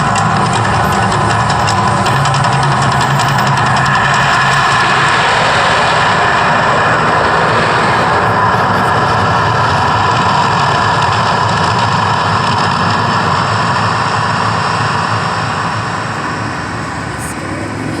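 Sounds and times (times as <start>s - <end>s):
artificial volcano roaring: 0.0s - 18.0s.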